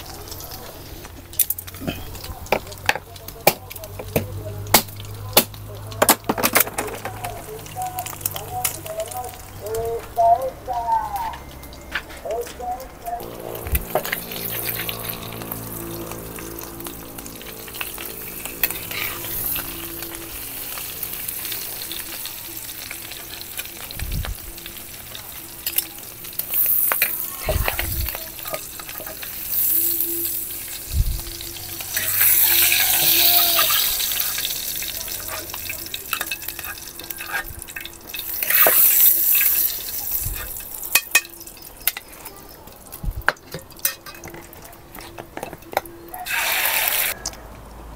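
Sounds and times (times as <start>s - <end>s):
food sizzling in hot oil: 0.0s - 10.5s, 13.2s - 47.2s.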